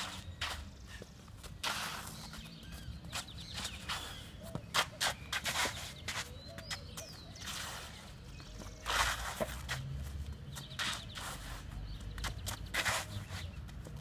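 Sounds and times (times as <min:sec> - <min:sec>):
running footfalls on clay court: 0:00.0 - 0:14.0
shoes sliding on clay: 0:00.0 - 0:14.0.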